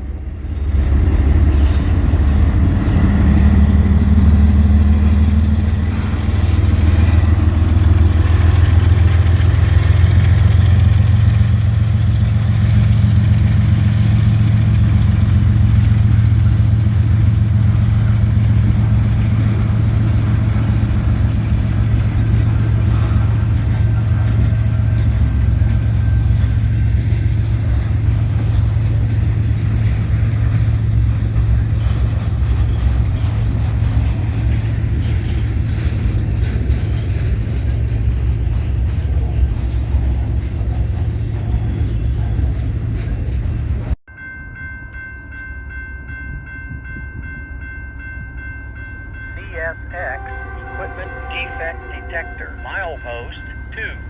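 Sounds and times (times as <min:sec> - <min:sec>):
locomotive engine rumble: 0:00.0 - 0:44.0, 0:47.6 - 0:54.0
wheels rattling on rail: 0:00.0 - 0:49.4.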